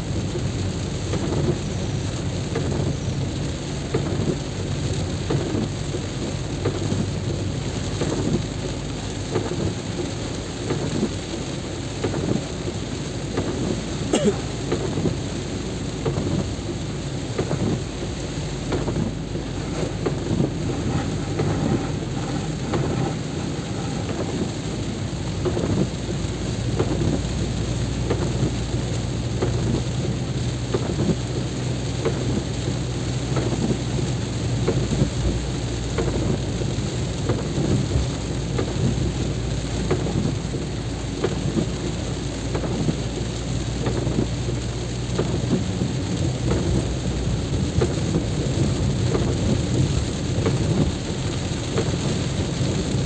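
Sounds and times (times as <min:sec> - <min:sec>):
heavy rain falling: 0:00.0 - 0:53.0
low vehicle hum: 0:00.0 - 0:53.0
raindrops hitting close by: 0:00.0 - 0:53.0.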